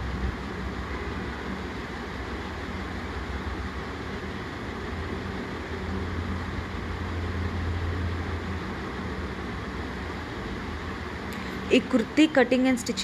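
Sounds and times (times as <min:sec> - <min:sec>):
low hum: 0:00.0 - 0:13.0
room noise hiss: 0:00.0 - 0:13.0.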